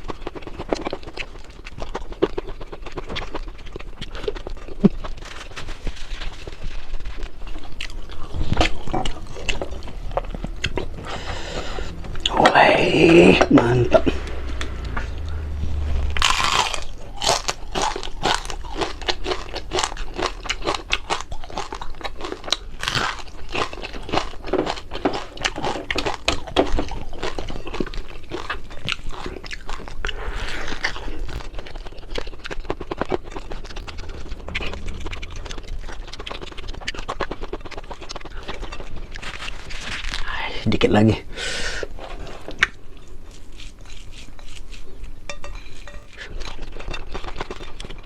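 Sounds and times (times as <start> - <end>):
chewing crispy fried fish: 0.0 - 15.4, 16.2 - 41.1, 41.7 - 48.0.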